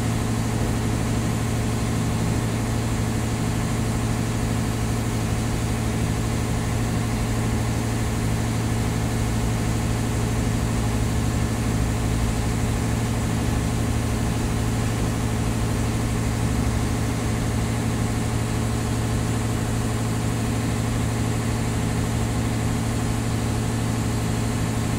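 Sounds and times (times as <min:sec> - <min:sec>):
engine running steadily: 0:00.0 - 0:24.9.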